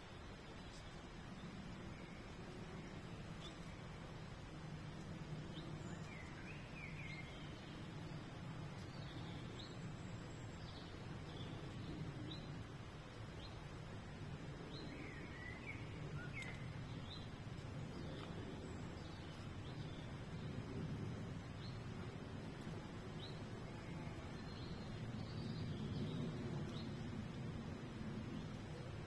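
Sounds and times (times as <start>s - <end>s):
low background rumble: 0.0s - 29.0s
small birds chirping: 0.0s - 29.0s.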